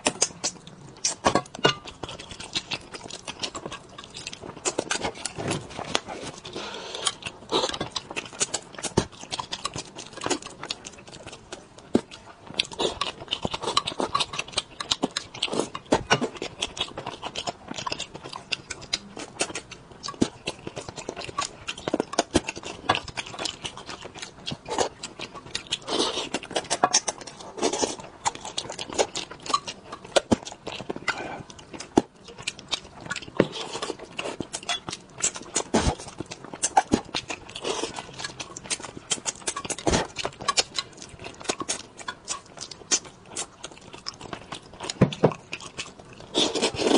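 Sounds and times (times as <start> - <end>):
man chewing with wet mouth clicks: 0.0 - 46.9.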